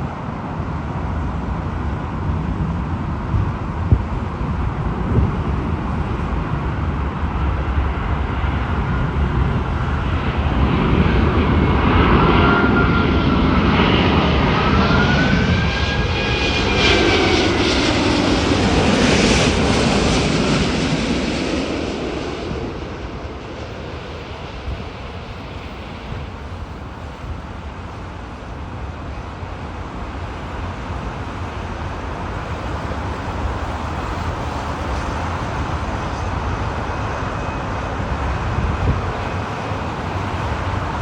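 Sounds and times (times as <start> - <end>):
jet airliner passing: 0.0 - 41.0
jet engine whine: 0.0 - 41.0.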